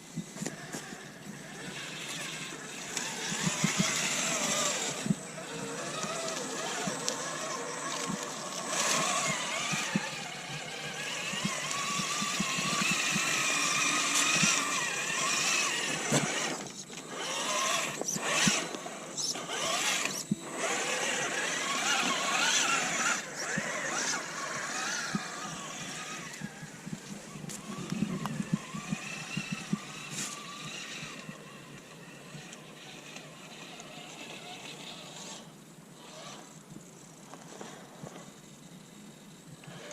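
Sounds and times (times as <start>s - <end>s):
electric motor and gearbox whining: 0.0s - 39.9s.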